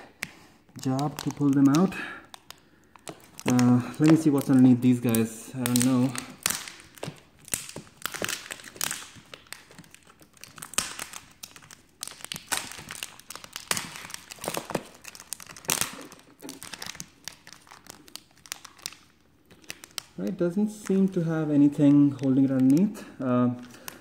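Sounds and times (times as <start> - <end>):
plastic film and tape crinkling: 0.0 - 24.0.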